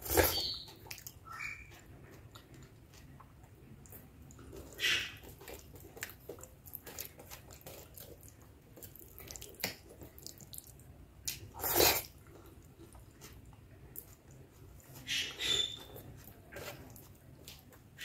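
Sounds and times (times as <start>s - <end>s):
closed-mouth chewing: 0.0s - 18.0s
fingers squishing soft food: 0.0s - 18.0s.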